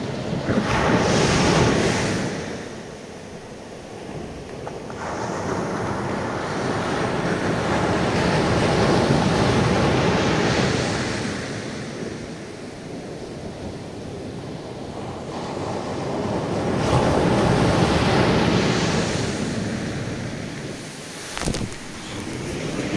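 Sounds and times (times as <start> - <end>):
small waves breaking on a beach: 0.0 - 22.9.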